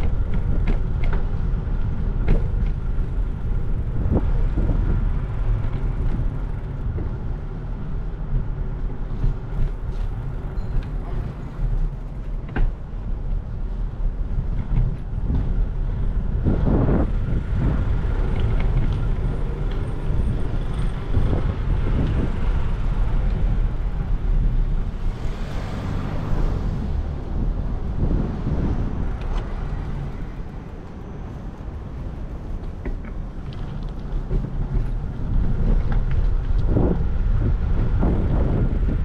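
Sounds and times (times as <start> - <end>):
steady low rumble: 0.0 - 39.0
vehicles passing: 0.0 - 39.0.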